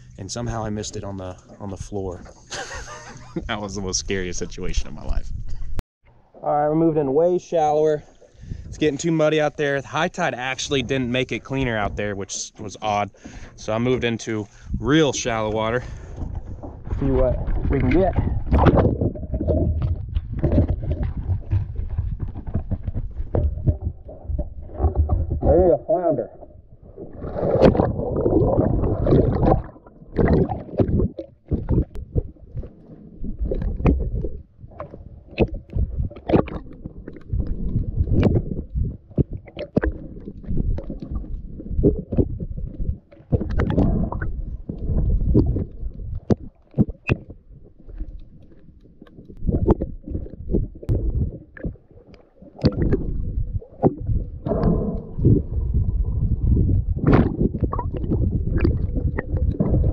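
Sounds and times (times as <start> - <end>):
muffled underwater rumble: 0.0 - 59.9.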